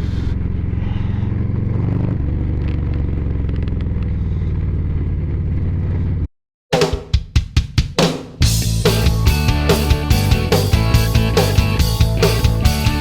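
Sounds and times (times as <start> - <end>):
motorcycle engine running: 0.0 - 6.3, 8.4 - 13.0.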